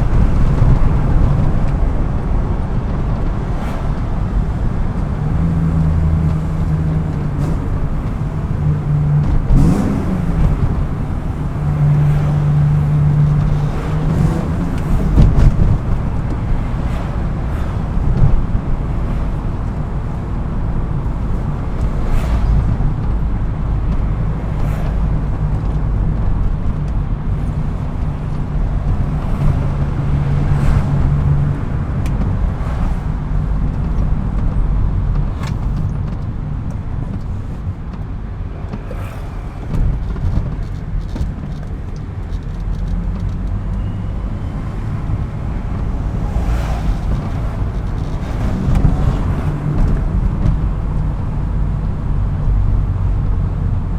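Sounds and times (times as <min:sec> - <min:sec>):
car engine running while driving: 0:00.0 - 0:53.9
road noise: 0:00.0 - 0:53.9.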